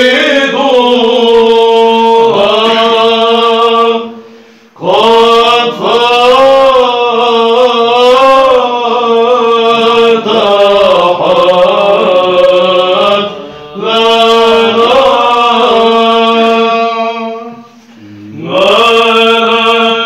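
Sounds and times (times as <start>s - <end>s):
male choir chanting over drone: 0.0s - 4.2s, 4.8s - 20.0s.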